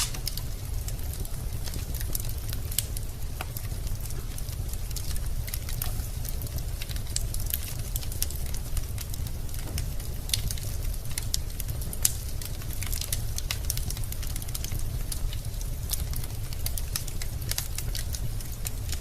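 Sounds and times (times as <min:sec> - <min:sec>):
low rumble of fire: 0:00.0 - 0:19.0
wood fire crackling: 0:00.0 - 0:19.0.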